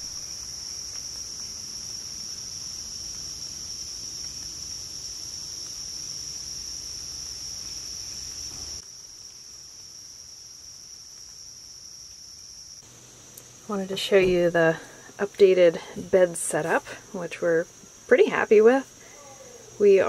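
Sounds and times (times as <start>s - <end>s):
insect chorus trilling: 0.0s - 20.0s
low background noise: 0.0s - 20.0s.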